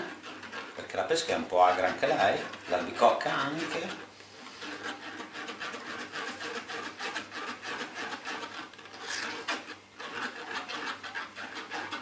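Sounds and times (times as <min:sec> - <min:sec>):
spoon scraping metal strainer: 0:00.0 - 0:12.0.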